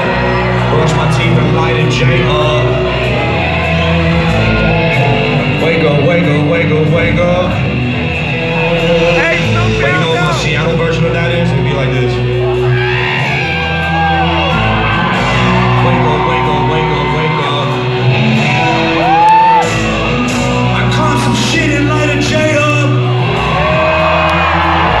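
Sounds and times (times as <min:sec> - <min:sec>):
crowd yelling and singing along: 0:00.0 - 0:25.0
live concert music: 0:00.0 - 0:25.0.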